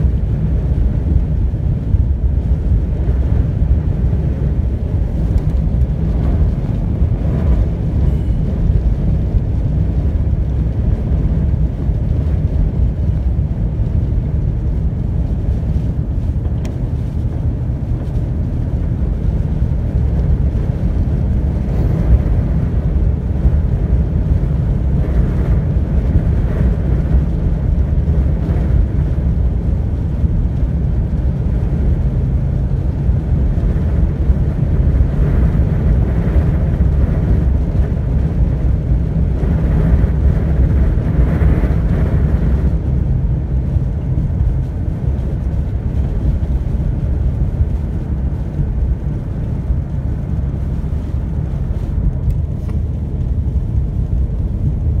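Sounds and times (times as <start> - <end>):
car engine and road noise: 0.0 - 55.0
wind against vehicle: 0.0 - 55.0.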